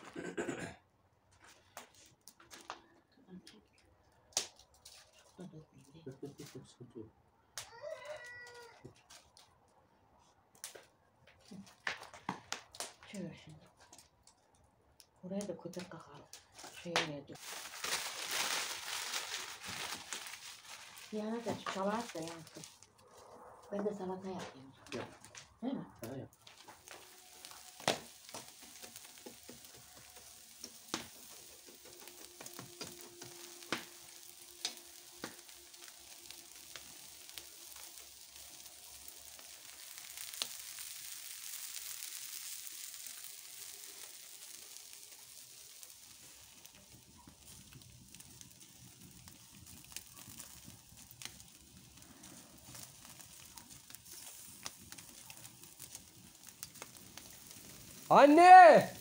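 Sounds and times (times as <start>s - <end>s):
sharp pops and crackles: 1.3s - 6.6s, 7.4s - 59.0s
meat sizzling over embers: 7.5s - 9.7s, 10.3s - 59.0s.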